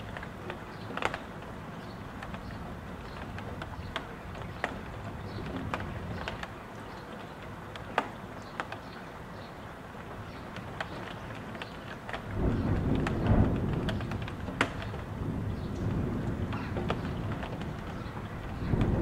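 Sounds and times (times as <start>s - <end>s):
gusting wind and rain: 0.0s - 19.0s
water drips tapping: 0.0s - 19.0s.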